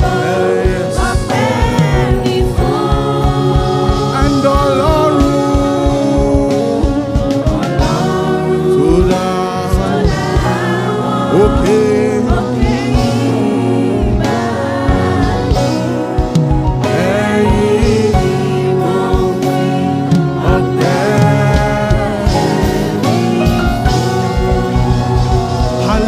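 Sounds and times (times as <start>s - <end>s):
keyboard chords: 0.0s - 26.0s
steady drum beat: 0.0s - 26.0s
voices singing: 0.0s - 26.0s.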